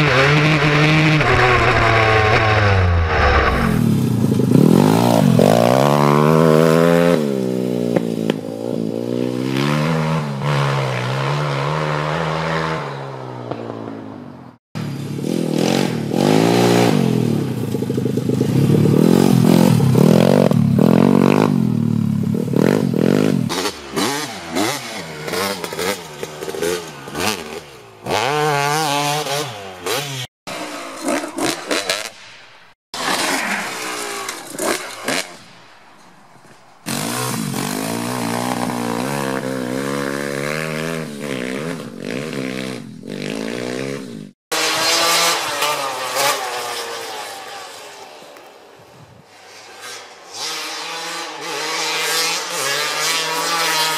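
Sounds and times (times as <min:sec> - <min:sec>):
small pit bike engine: 0:00.0 - 0:32.2, 0:33.0 - 0:53.9
dirt bike engines revving: 0:00.0 - 0:53.9.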